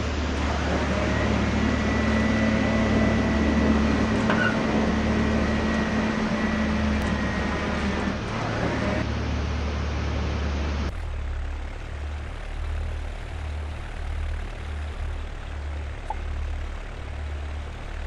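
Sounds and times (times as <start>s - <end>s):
propeller plane engines droning: 0.0s - 18.0s.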